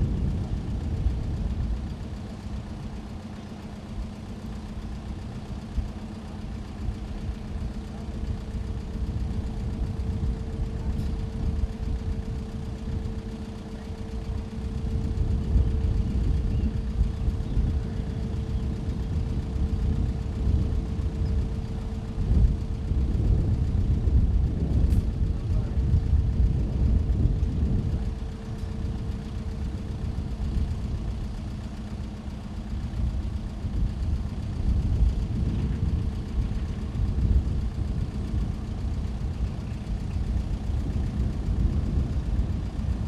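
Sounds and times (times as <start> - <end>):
bridge lifting machinery hum: 0.0 - 43.0
low uneven rumble: 0.0 - 43.0.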